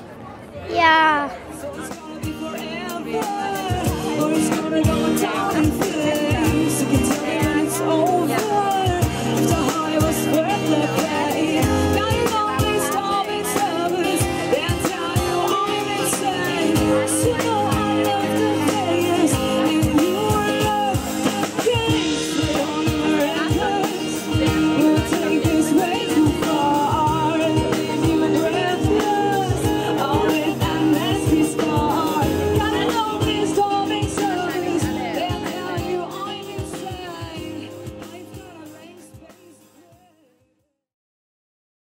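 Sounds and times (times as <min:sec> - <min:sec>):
acoustic guitars: 0:00.7 - 0:40.1
person singing: 0:00.8 - 0:40.4
steady drum beat: 0:01.8 - 0:40.1.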